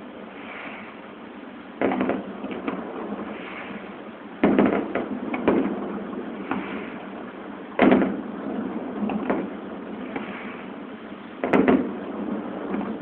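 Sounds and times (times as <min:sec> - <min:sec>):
fireworks bursting with bangs: 0:00.0 - 0:13.0
fireworks crackles: 0:00.0 - 0:13.0
small fireworks pops: 0:01.8 - 0:13.0.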